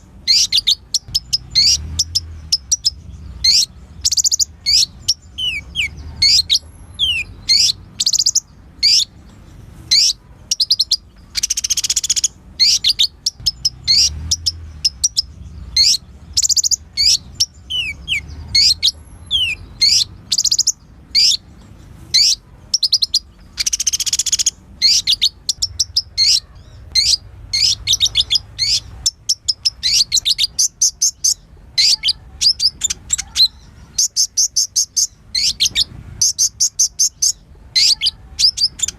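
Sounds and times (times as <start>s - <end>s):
buzzy bird trill: 0.0s - 38.9s
sunbird chirping: 0.0s - 38.9s.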